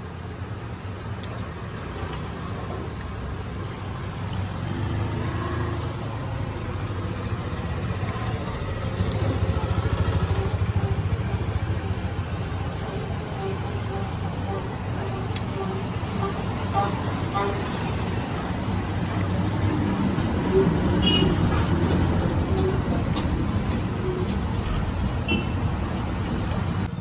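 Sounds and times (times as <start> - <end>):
vehicle engine running: 0.1 - 27.0.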